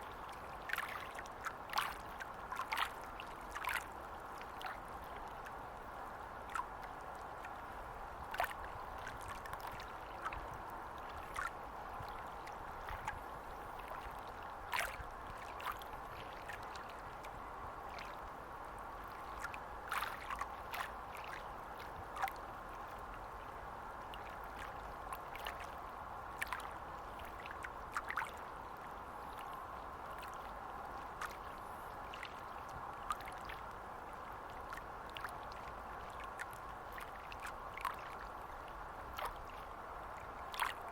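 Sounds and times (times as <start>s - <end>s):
water lapping at shore: 0.0s - 40.9s.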